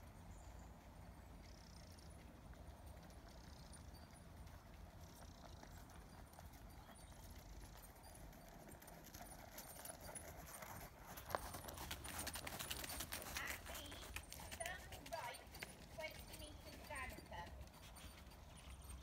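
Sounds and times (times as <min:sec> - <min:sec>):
horse hoofbeats: 0:00.6 - 0:19.0.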